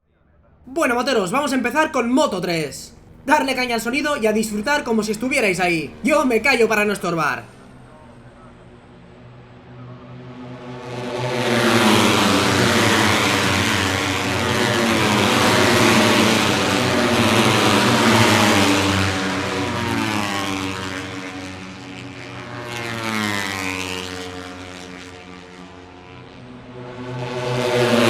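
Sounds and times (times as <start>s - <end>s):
racing motorcycles passing at speed: 2.9s - 28.0s.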